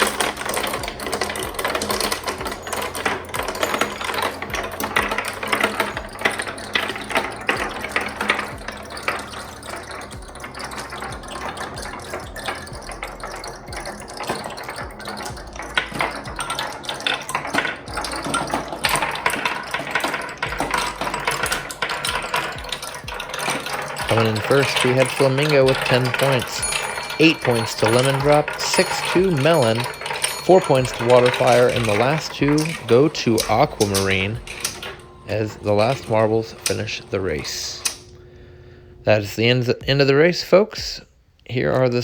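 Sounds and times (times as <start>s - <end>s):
marbles rattling down a track: 0.0s - 38.2s.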